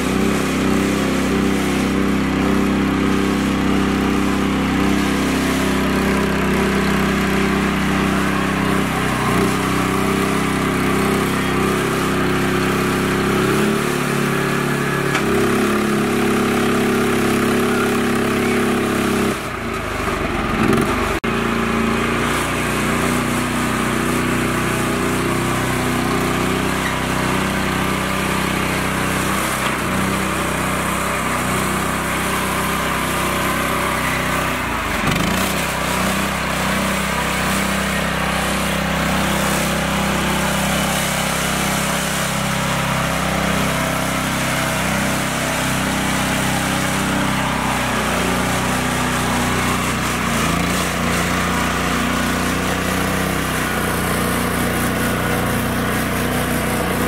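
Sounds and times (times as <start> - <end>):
small tractor engine running: 0.0 - 57.0.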